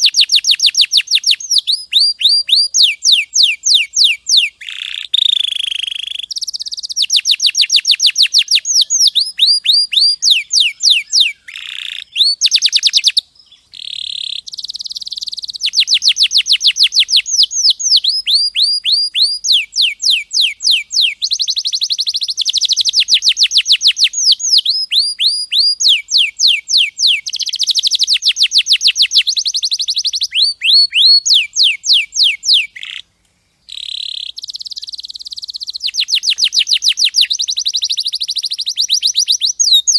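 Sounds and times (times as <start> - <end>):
canary singing rapid trills: 0.0 - 33.1, 33.7 - 39.9.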